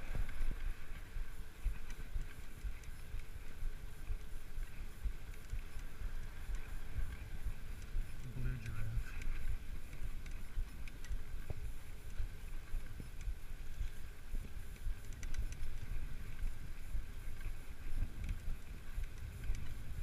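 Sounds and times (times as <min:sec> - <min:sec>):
bicycle clicks and rattles: 0:00.0 - 0:20.0
wind buffeting microphone: 0:00.0 - 0:20.0.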